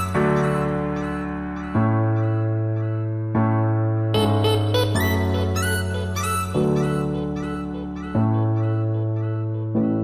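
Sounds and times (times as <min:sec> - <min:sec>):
keyboard chords with melody: 0:00.0 - 0:10.0.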